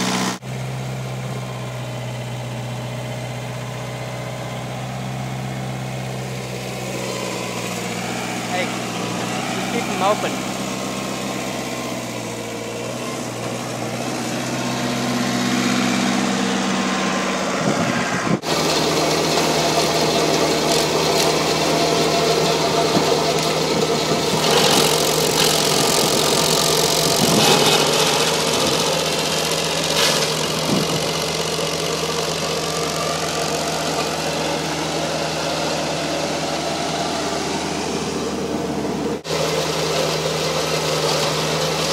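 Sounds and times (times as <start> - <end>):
stump grinder engine running: 0.0 - 41.9.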